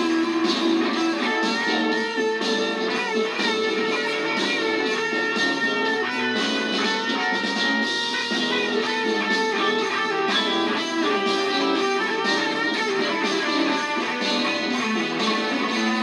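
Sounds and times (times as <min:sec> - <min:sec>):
electric guitar playing: 0:00.0 - 0:16.0.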